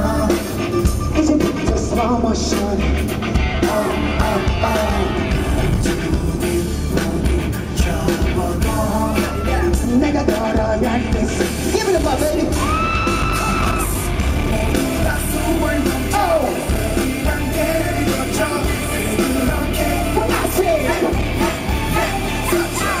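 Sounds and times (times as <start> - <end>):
live pop music with dance beat: 0.0 - 23.0
man singing and yelling: 0.0 - 23.0.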